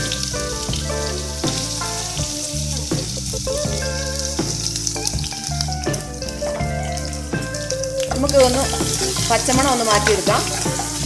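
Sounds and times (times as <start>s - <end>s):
background music with bass: 0.0s - 11.0s
garlic and ginger sizzling in oil: 0.0s - 11.0s.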